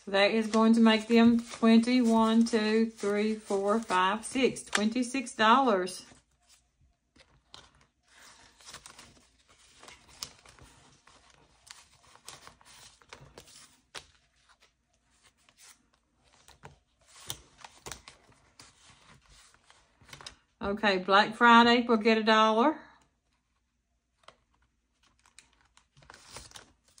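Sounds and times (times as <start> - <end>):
paper bills rustling and crinkling: 0.0 - 5.4, 6.0 - 20.5, 24.2 - 27.0.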